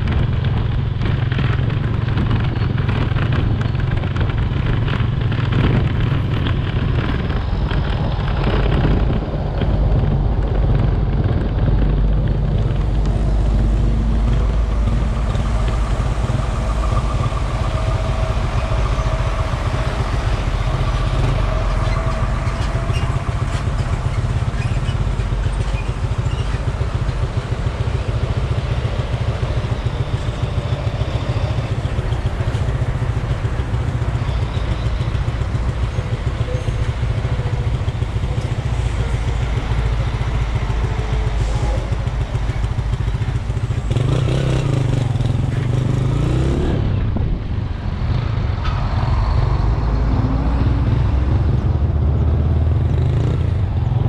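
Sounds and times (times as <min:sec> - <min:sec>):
motorcycle engine: 0:00.0 - 0:54.0
truck diesel engines: 0:00.0 - 0:54.0
wind rumble on microphone: 0:00.0 - 0:54.0
low engine sliding in pitch: 0:04.6 - 0:54.0.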